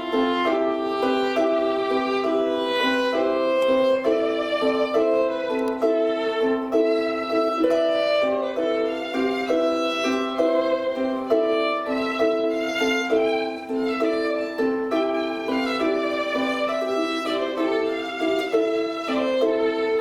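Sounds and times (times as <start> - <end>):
chamber ensemble playing slow piece: 0.0 - 20.0
violin melody: 0.0 - 20.0.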